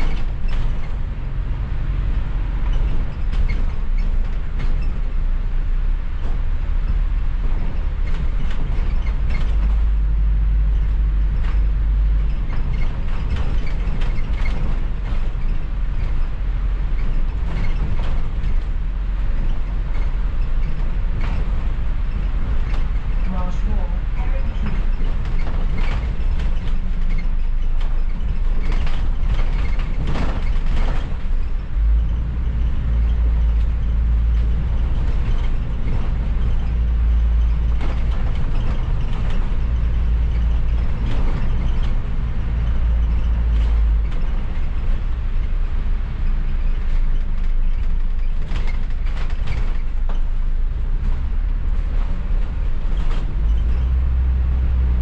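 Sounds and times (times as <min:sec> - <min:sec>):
bus engine and road rumble: 0:00.0 - 0:55.0
knocks and rattles: 0:00.0 - 0:55.0.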